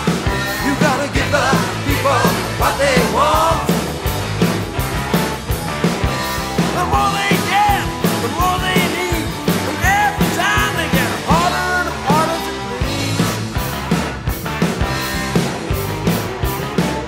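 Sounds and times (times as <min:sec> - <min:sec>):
rock music: 0:00.0 - 0:17.0
steady drum beat: 0:00.0 - 0:17.0.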